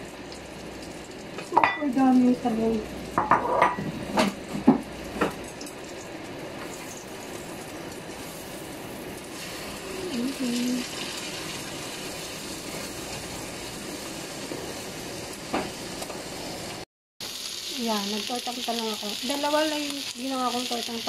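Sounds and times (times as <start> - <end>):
oil sizzling in frying pan: 0.0 - 21.0.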